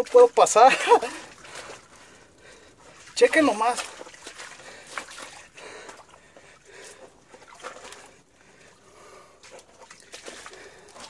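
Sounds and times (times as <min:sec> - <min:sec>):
heavy labored breathing: 0:01.0 - 0:03.0, 0:04.0 - 0:11.0.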